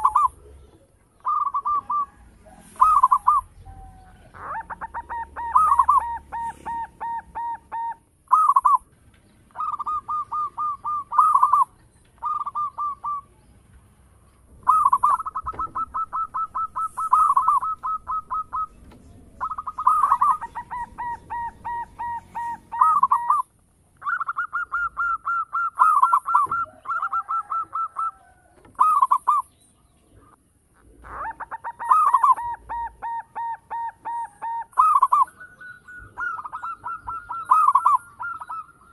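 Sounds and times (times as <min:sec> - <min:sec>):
dove cooing: 0:00.0 - 0:13.5, 0:14.4 - 0:38.9.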